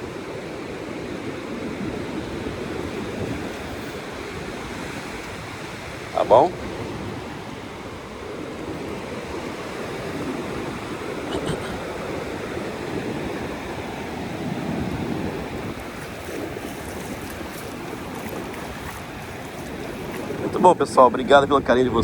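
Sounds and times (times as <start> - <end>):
surf washing onto beach: 0.0 - 22.0
wind rushing on microphone: 0.0 - 22.0.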